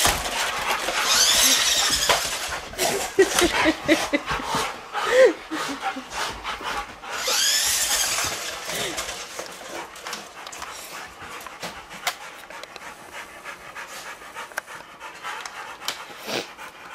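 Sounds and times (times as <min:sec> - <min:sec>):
dog panting: 0:00.0 - 0:16.9.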